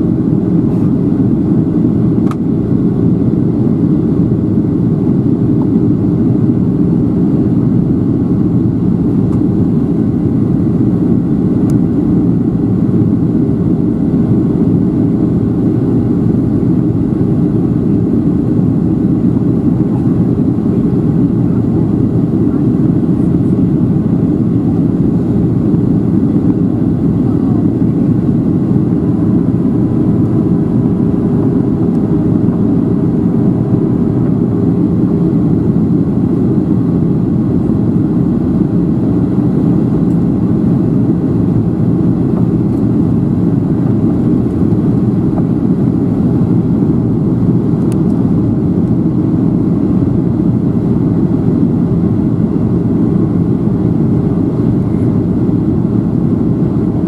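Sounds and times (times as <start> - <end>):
jet engine drone: 0.0 - 57.0.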